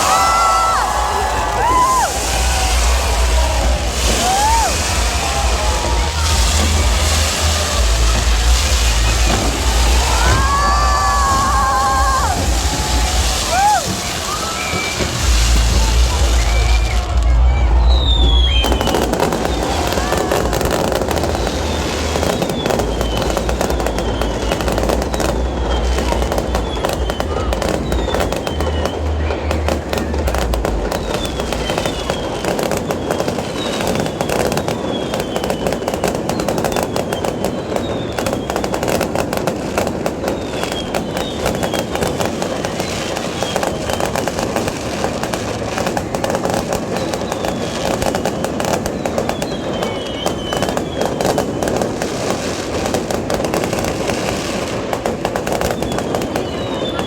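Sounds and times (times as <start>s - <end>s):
falling fireworks whistles: 0.0s - 57.0s
fireworks crackling and popping: 0.0s - 57.0s.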